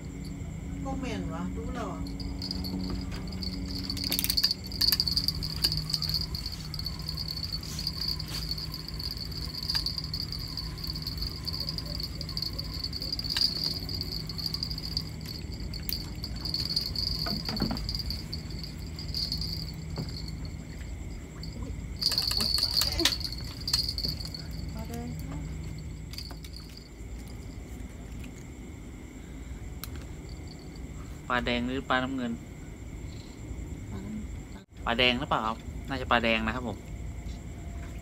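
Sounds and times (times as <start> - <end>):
low steady hum: 0.0 - 31.4
insects chirring: 0.0 - 38.0.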